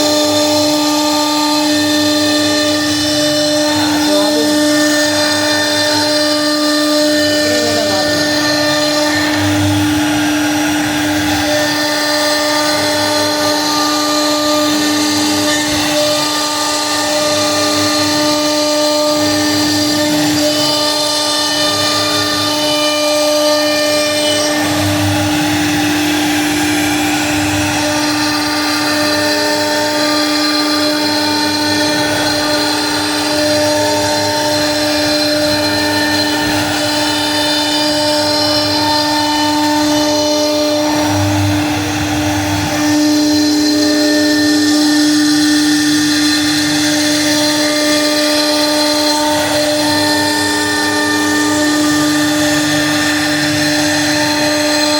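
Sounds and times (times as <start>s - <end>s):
bit cutting wood: 0.0s - 54.9s
router spindle whining: 0.0s - 54.9s.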